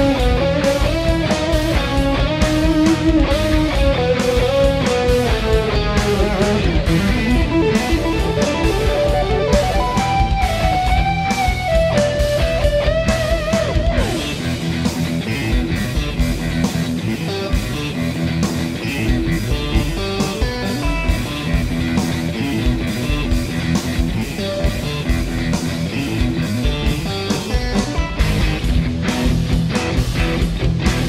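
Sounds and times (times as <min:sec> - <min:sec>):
electric guitar playing: 0:00.0 - 0:31.0.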